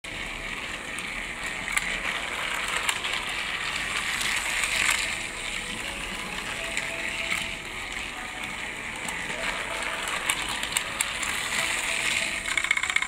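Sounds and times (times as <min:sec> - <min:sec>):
toy train motor whirring: 0:00.1 - 0:13.0.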